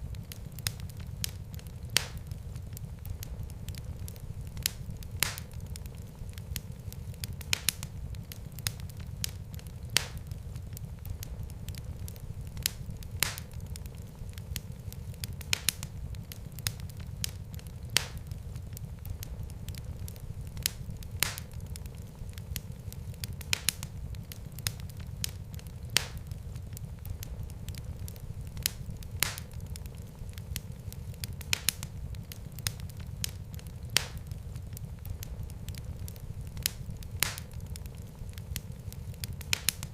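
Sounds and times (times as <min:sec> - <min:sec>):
fire crackling: 0:00.0 - 0:39.9
low rumble of flames: 0:00.0 - 0:39.9
sharp fire pops: 0:00.0 - 0:39.9.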